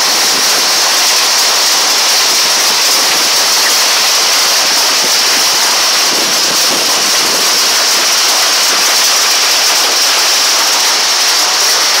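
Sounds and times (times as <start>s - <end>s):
hail and heavy rain falling: 0.0s - 12.0s.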